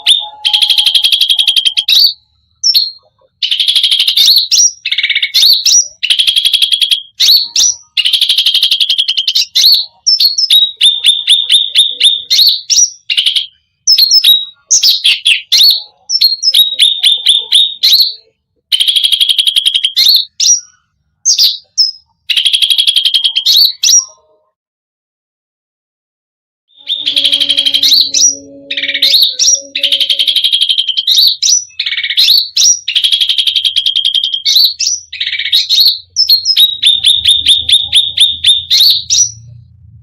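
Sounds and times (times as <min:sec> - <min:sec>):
songbird singing trills: 0:00.0 - 0:24.5, 0:26.7 - 0:39.6.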